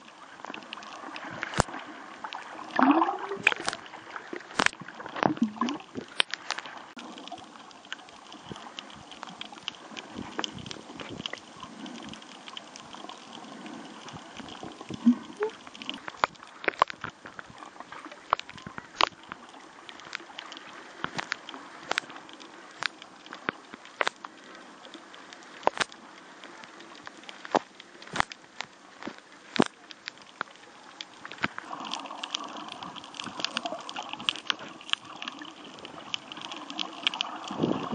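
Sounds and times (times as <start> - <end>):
muffled underwater hiss: 0.0 - 37.9
underwater clicks and pops: 0.4 - 17.5, 18.1 - 24.4, 25.6 - 26.0, 27.0 - 37.9.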